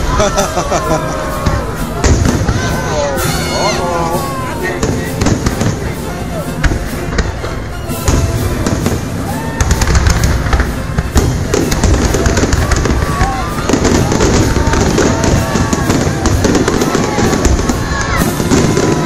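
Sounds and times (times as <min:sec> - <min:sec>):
fireworks booming: 0:00.0 - 0:03.6, 0:04.2 - 0:19.0
fireworks crackling and popping: 0:00.0 - 0:19.0.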